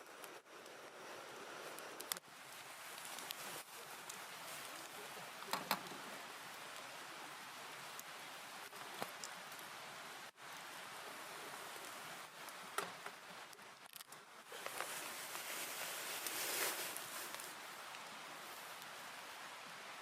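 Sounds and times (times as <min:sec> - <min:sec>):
campfire crackling: 0:00.0 - 0:20.0
steady hiss: 0:00.0 - 0:20.0.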